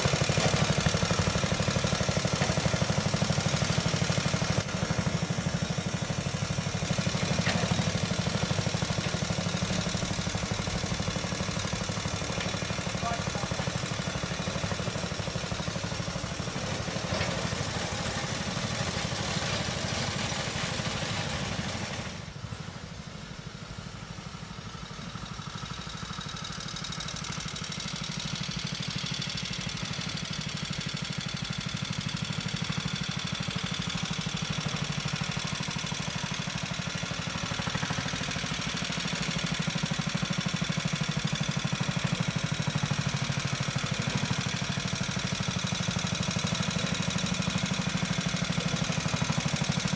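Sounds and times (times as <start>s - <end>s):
petrol engine running: 0.0s - 49.9s.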